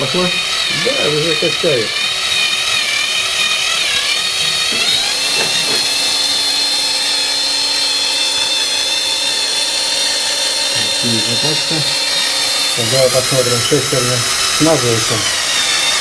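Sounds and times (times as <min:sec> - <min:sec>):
cordless drill whining under load: 0:00.0 - 0:16.0.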